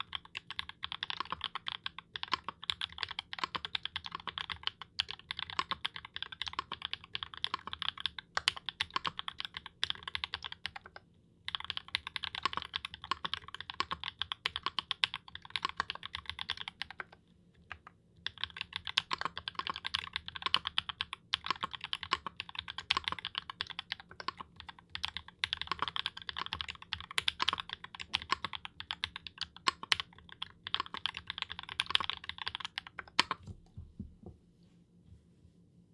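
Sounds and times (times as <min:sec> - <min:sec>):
fast typing on mechanical keyboard: 0:00.0 - 0:33.5.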